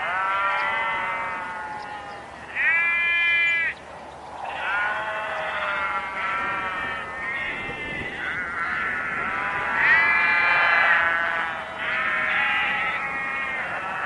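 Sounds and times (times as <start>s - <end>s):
animal bleating: 0.0s - 3.8s, 4.4s - 14.0s.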